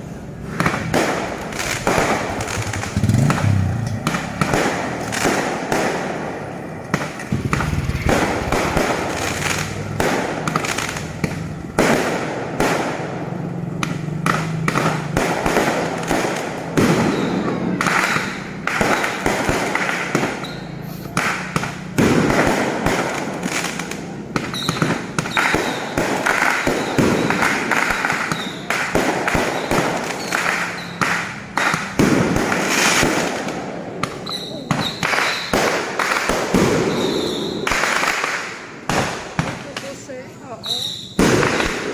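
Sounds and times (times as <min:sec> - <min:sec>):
fireworks and firecrackers banging: 0:00.0 - 0:41.9.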